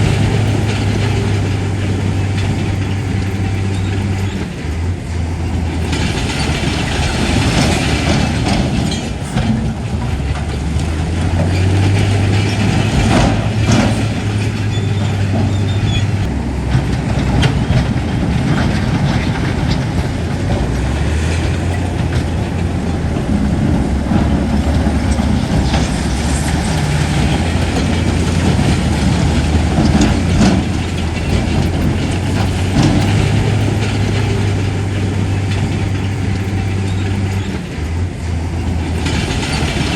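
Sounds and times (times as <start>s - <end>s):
bulldozer diesel engine running: 0.0s - 39.9s
metallic clanks and rattles: 0.0s - 39.9s.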